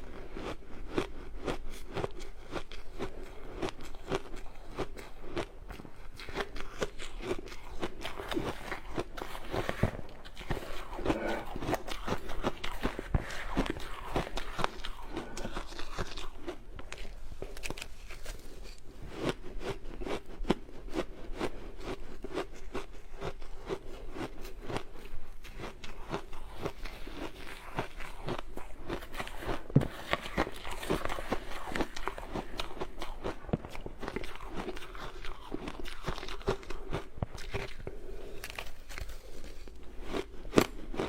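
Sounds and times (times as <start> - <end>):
ice being chewed: 0.0 - 41.0.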